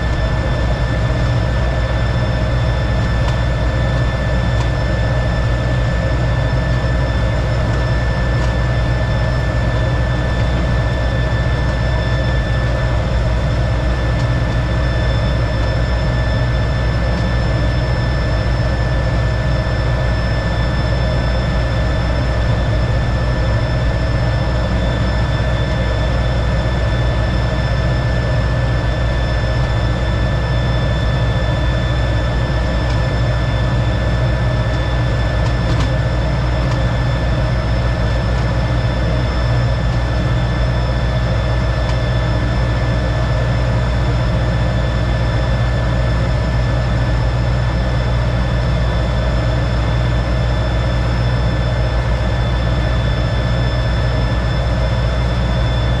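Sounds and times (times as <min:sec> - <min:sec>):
jet engine drone with whine: 0:00.0 - 0:56.0.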